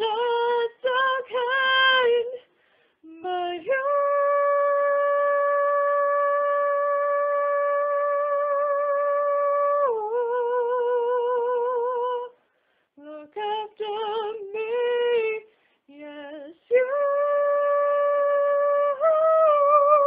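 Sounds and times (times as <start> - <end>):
woman singing unaccompanied: 0.0 - 12.4, 13.0 - 20.0.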